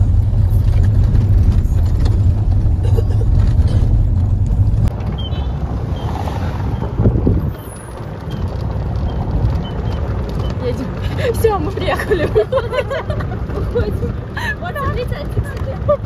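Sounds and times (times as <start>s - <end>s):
car interior rumble: 0.0s - 16.0s
wind and road noise: 0.0s - 16.0s.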